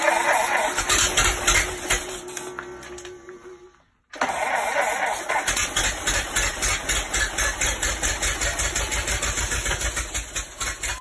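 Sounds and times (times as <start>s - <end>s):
old car engine running roughly: 0.0s - 2.2s, 4.2s - 11.0s.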